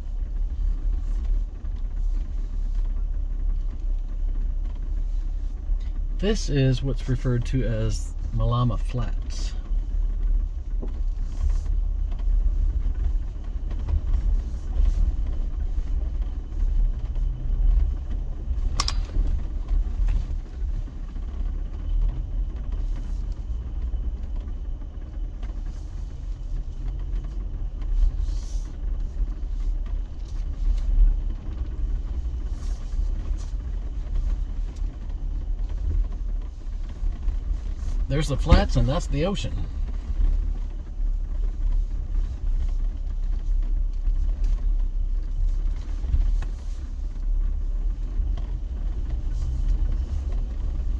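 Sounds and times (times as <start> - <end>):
vehicle engine rumble: 0.0 - 50.9.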